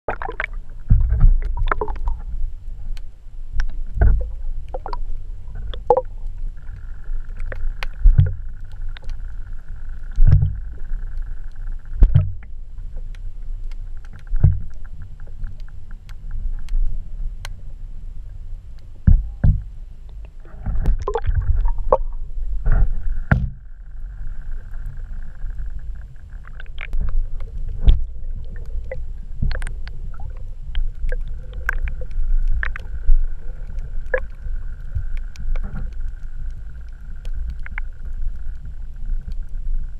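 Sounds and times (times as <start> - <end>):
faint steady whine: 0.1 - 39.9
muffled underwater rumble: 0.1 - 39.9.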